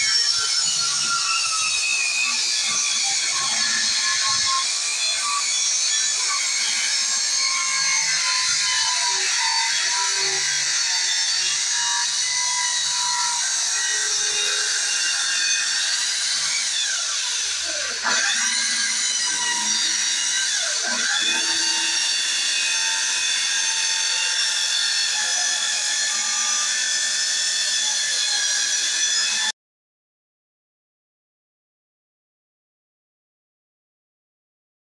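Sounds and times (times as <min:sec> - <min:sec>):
power tool cutting wood: 0:00.0 - 0:29.6.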